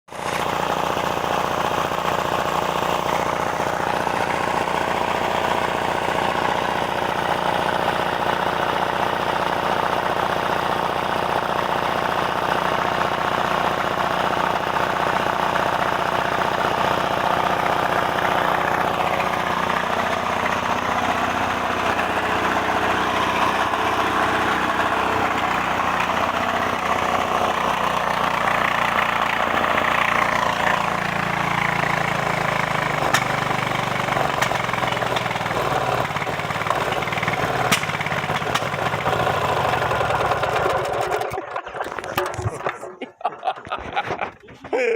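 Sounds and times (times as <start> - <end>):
diesel engine running: 0.1 - 44.9.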